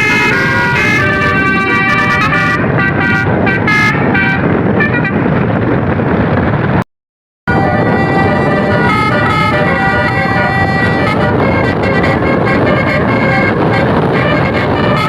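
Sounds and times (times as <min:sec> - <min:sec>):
bus musical horn tune: 0:00.0 - 0:05.4, 0:07.5 - 0:15.0
road and engine noise: 0:00.0 - 0:06.8, 0:07.5 - 0:15.0.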